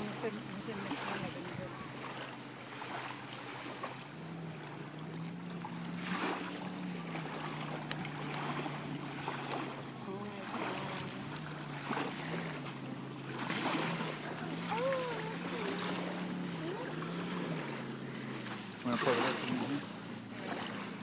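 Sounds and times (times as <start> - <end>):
low steady drone: 0.0 - 21.0
waves lapping on sandy shore: 0.0 - 21.0.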